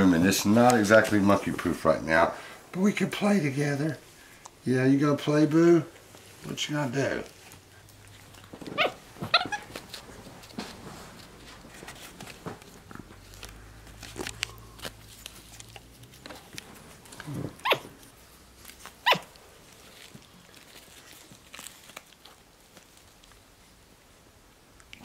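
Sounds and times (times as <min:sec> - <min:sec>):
faint rustling: 0:00.0 - 0:23.8.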